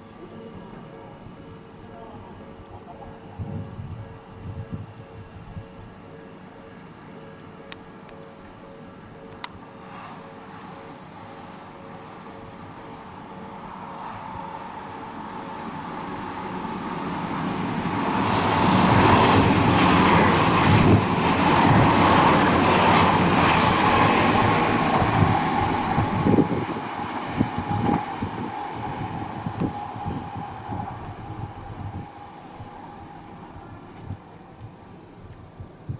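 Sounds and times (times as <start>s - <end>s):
electric train passing: 0.0s - 35.9s.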